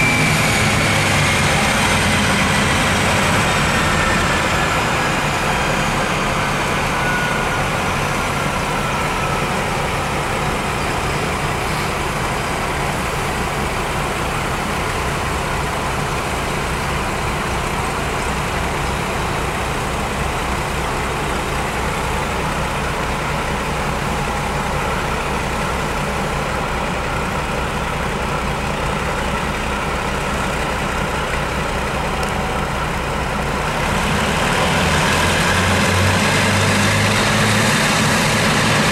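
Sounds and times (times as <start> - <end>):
diesel locomotive engine idling: 0.0 - 38.9
high engine whine falling in pitch: 0.0 - 38.9.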